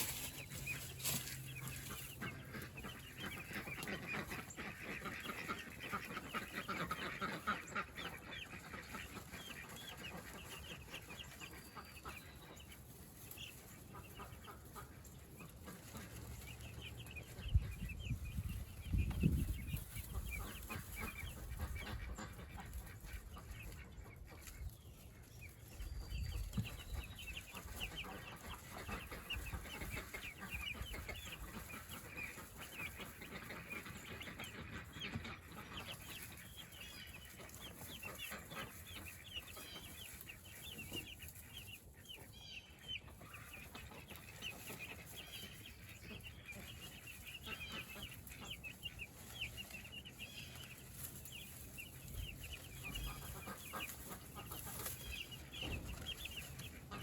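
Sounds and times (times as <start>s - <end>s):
chickens peeping and clucking: 0.0s - 57.0s.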